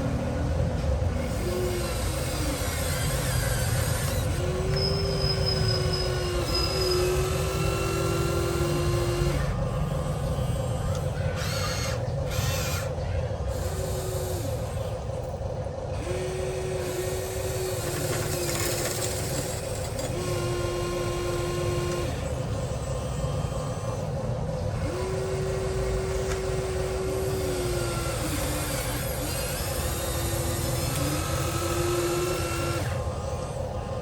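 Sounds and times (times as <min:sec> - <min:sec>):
electric motors whining: 0:00.0 - 0:34.0
steady low hum: 0:00.0 - 0:34.0.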